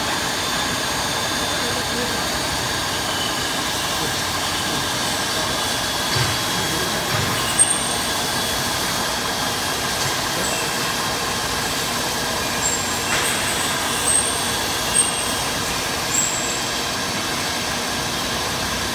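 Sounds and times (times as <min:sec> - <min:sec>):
drilling machine running: 0:00.0 - 0:18.9.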